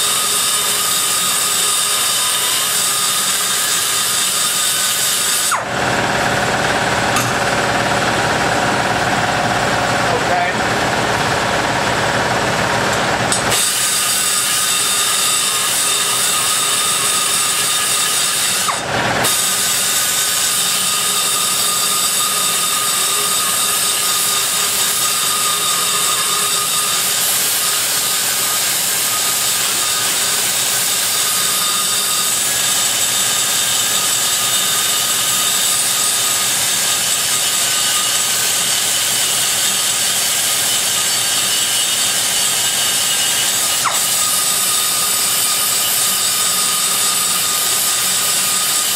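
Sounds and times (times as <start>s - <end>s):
die grinder grinding metal: 0.0s - 48.9s.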